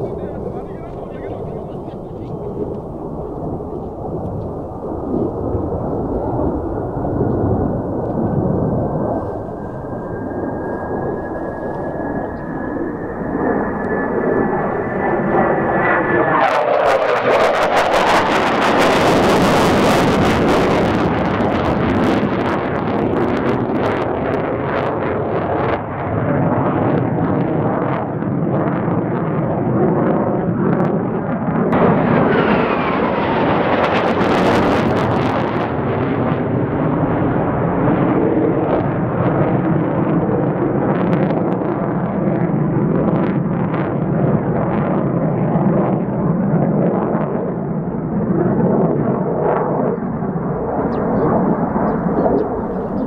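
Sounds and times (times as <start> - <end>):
jet whine: 0.0 - 53.0
rough crackling jet roar: 0.0 - 53.0.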